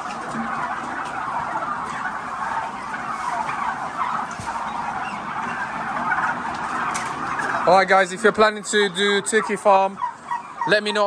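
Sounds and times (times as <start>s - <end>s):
flock of turkeys calling: 0.0s - 11.0s.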